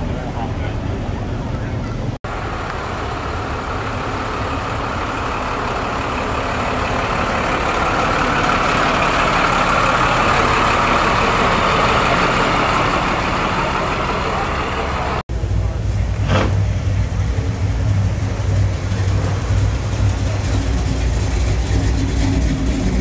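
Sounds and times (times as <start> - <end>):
pickup truck engine running: 2.3 - 23.0.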